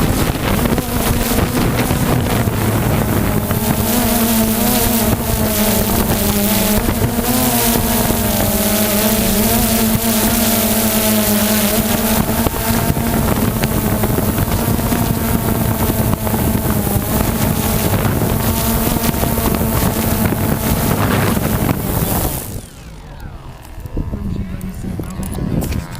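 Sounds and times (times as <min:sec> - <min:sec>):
propeller aircraft engine drone: 0:00.0 - 0:25.9
wind buffeting microphone: 0:00.0 - 0:25.9.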